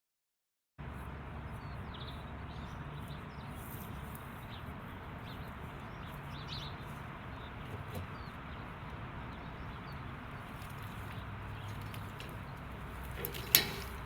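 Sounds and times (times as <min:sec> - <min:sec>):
birds chirping: 0:01.4 - 0:14.0.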